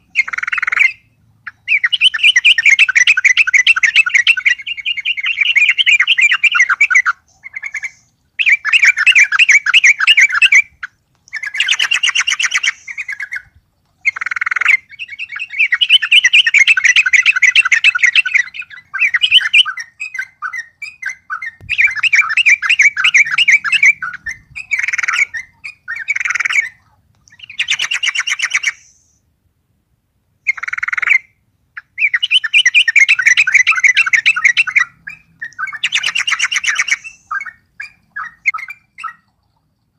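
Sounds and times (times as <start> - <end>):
bird singing chattering phrases: 0.0 - 10.6, 11.3 - 29.0, 31.8 - 39.2.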